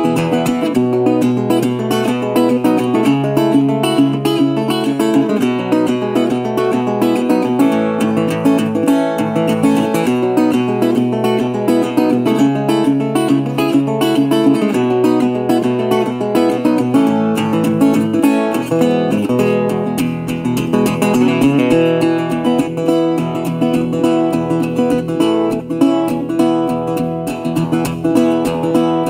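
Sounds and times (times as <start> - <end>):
acoustic guitar plucked and strummed: 0.0 - 29.0.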